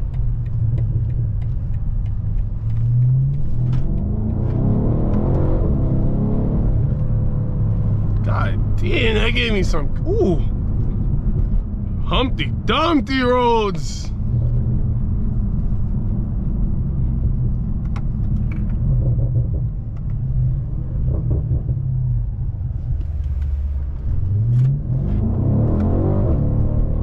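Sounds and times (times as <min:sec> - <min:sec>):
car engine drone: 0:00.0 - 0:27.0
road noise: 0:00.0 - 0:27.0.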